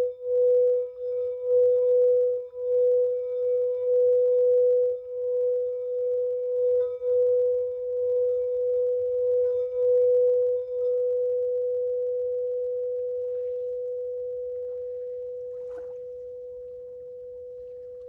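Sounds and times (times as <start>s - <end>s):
pure meditation tone: 0.0s - 18.0s.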